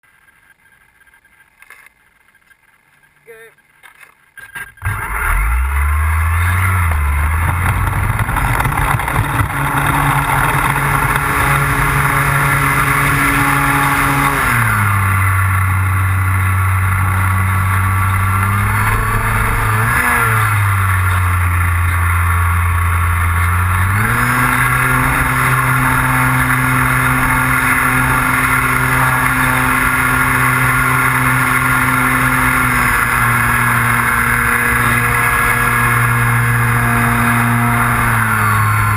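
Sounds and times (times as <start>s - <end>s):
model airplane engine running: 4.8s - 38.9s.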